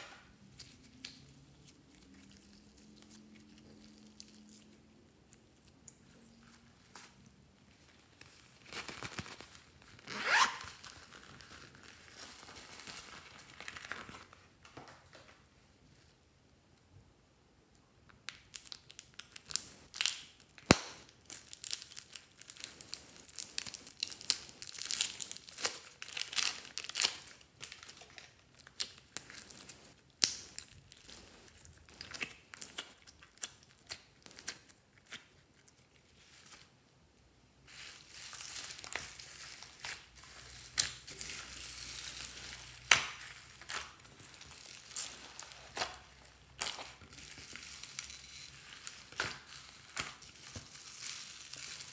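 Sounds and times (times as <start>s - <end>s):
plastic bag of slime crackling: 0.5s - 14.7s, 18.3s - 36.8s, 37.7s - 51.9s.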